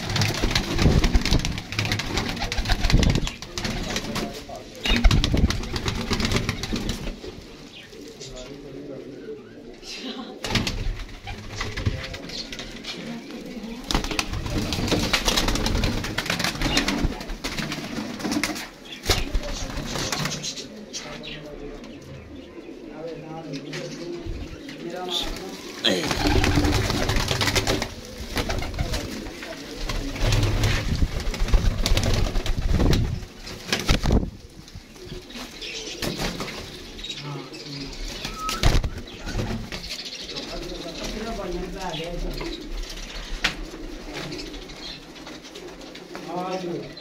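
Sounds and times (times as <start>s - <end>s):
wings flapping: 0.0s - 7.4s, 10.4s - 20.7s, 25.0s - 36.9s, 38.1s - 46.6s
pigeons cooing: 0.0s - 47.0s.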